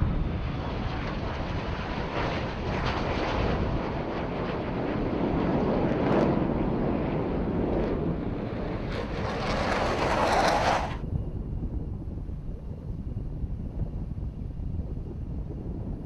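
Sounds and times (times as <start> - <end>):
jet aircraft roaring overhead: 0.0 - 16.0
wind rumble on microphone: 0.0 - 16.0.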